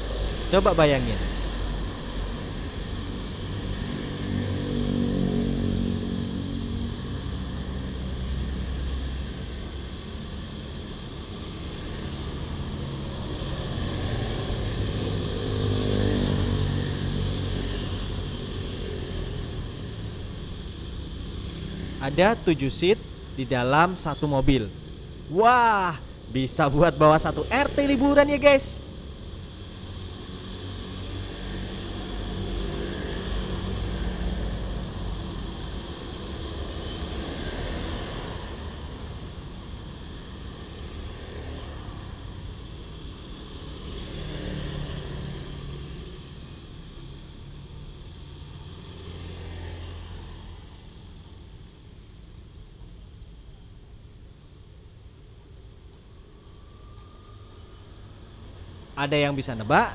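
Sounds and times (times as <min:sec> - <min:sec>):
motorcycles and cars passing: 0:00.0 - 0:53.4, 0:54.9 - 0:59.9
road traffic rumble: 0:00.0 - 0:59.9.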